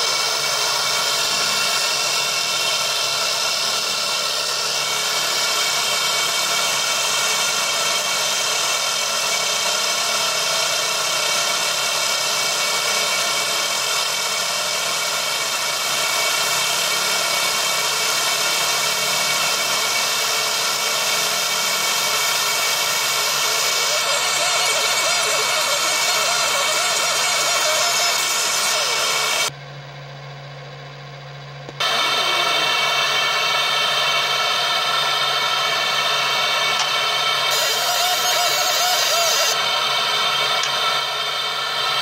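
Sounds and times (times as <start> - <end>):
laser engraver hiss and whine: 0.0 - 29.5, 31.8 - 42.0.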